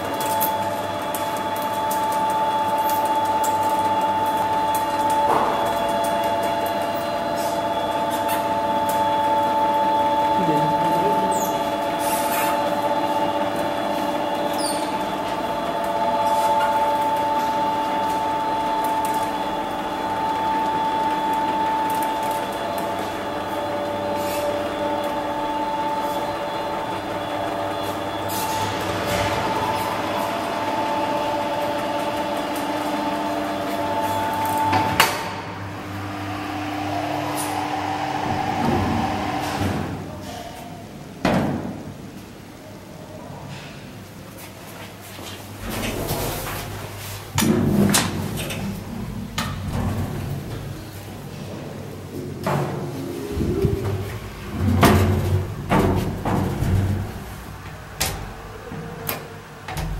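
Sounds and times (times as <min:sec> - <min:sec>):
elevator motor whining hum: 0:00.0 - 0:59.9.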